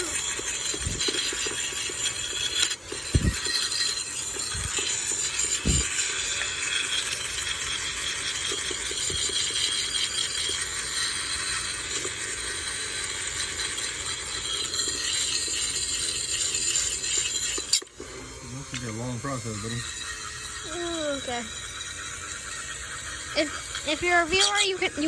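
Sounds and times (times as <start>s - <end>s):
rotary wire brush grinding metal: 0.0s - 25.0s.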